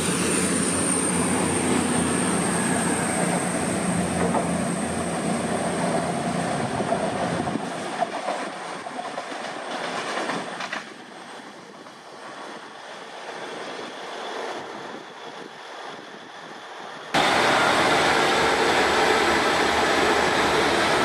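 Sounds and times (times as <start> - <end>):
diesel train engines rumbling: 0.0 - 21.0
train wheels on rails: 0.0 - 21.0.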